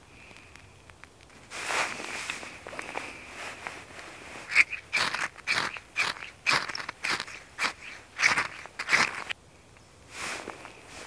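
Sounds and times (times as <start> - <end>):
dry grass rustling and crackling: 0.0 - 9.4.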